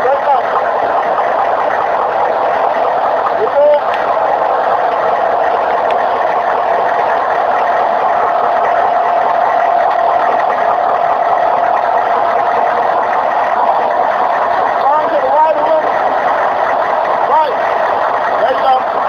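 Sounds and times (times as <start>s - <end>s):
vehicle engine running slowly: 0.0s - 19.0s.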